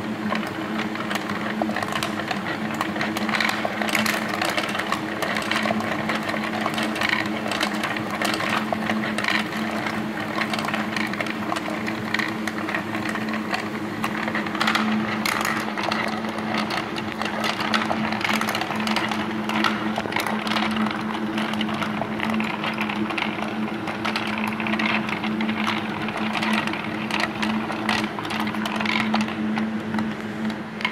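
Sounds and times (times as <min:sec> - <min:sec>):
electric motor hum: 0:00.0 - 0:30.9
ball bearings clattering on wooden tracks: 0:00.3 - 0:30.9.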